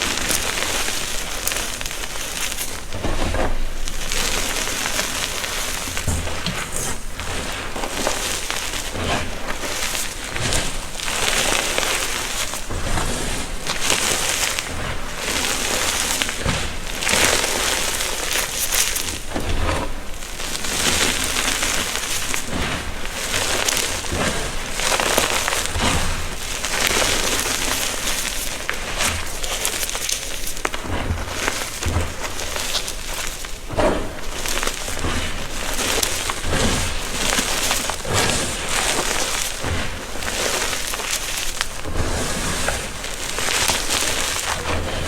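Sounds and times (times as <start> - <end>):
chalk being crushed: 0.0 - 45.0.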